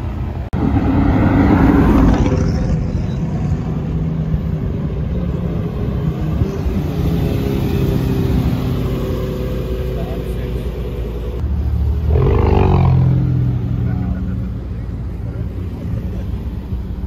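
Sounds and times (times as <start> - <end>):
steady engine rumble: 0.0 - 17.0.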